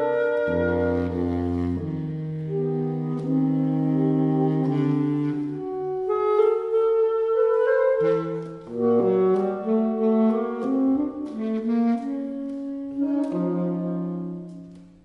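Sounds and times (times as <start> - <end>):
saxophone trio playing: 0.0 - 15.0.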